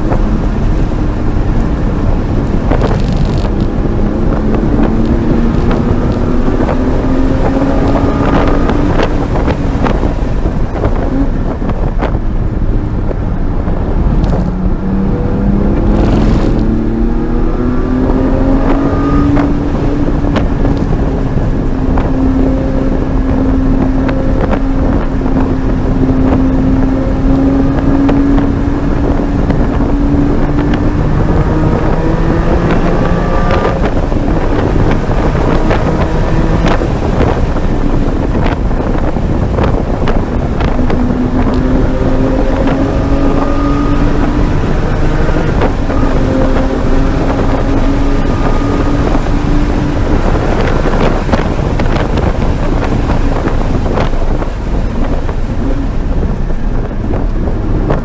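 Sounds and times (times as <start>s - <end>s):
car engine accelerating hard: 0.0s - 58.0s
wind and road noise: 0.0s - 58.0s.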